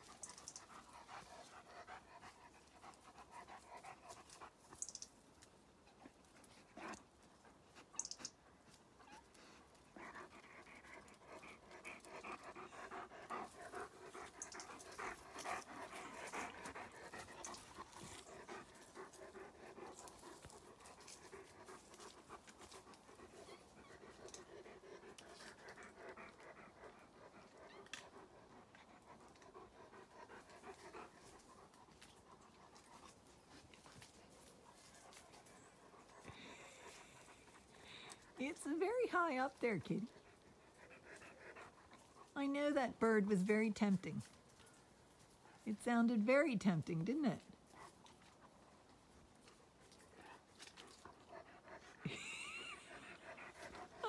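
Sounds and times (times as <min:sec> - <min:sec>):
dog panting: 0:00.0 - 0:04.9, 0:05.8 - 0:54.0.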